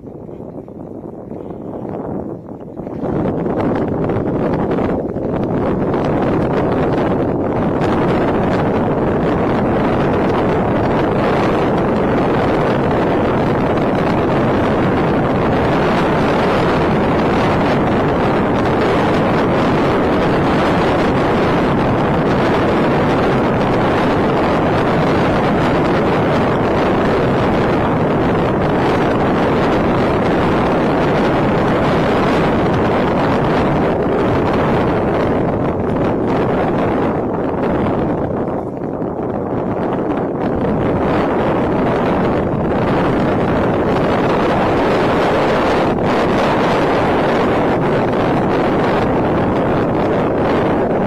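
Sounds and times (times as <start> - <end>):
wind noise on microphone: 0.0 - 51.0.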